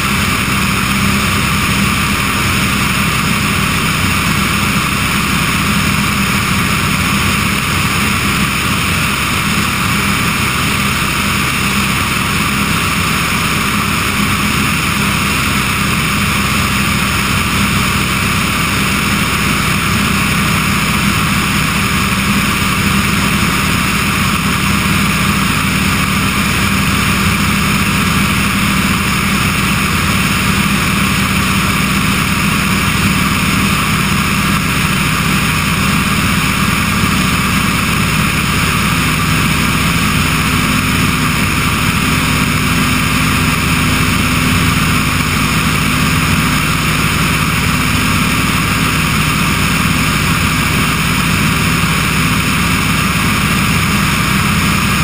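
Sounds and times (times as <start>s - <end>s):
aircraft engine and propeller droning: 0.0s - 55.0s
rush of airflow: 0.0s - 55.0s.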